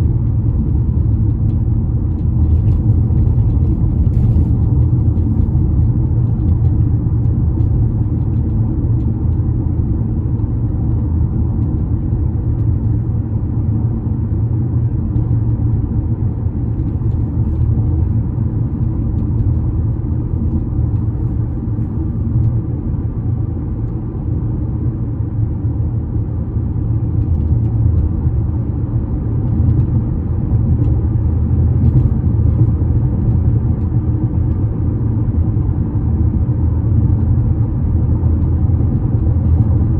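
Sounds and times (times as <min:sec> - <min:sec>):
low rumble from a bridge: 0:00.0 - 0:39.9.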